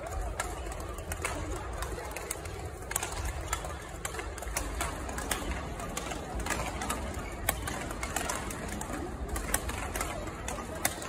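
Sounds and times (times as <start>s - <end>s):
low hum of sports hall: 0.0s - 11.0s
rackets hitting shuttlecocks: 0.0s - 11.0s.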